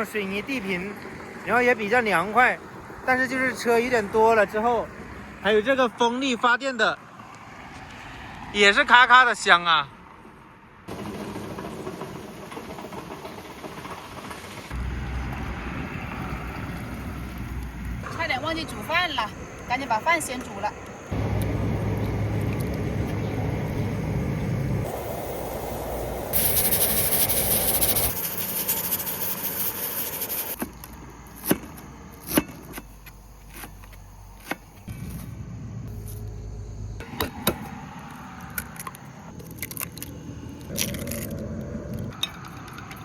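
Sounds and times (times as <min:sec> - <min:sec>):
highway traffic rumble: 0:00.0 - 0:43.0.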